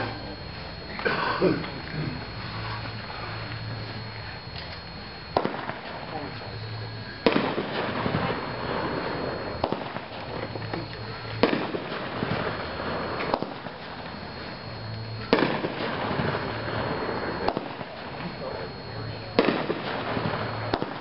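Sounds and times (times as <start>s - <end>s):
firework shots: 0.0s - 21.0s.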